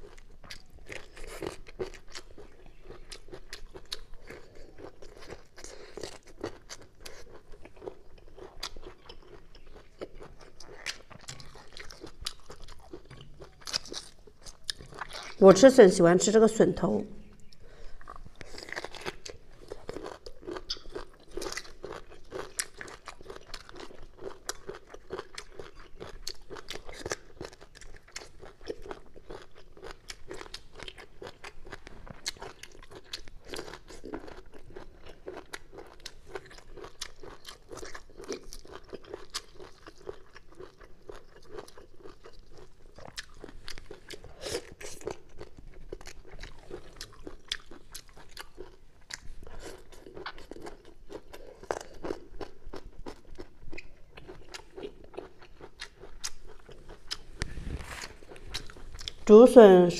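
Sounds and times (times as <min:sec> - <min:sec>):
person chewing crunchy food: 0:00.0 - 0:15.4, 0:17.2 - 0:59.3.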